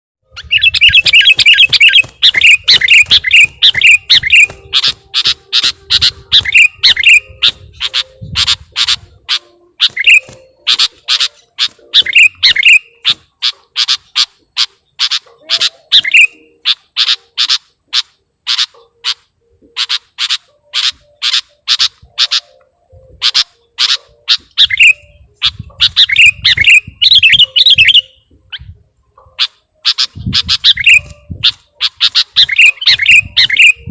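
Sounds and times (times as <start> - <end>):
bulbul calling: 0.3 - 33.9.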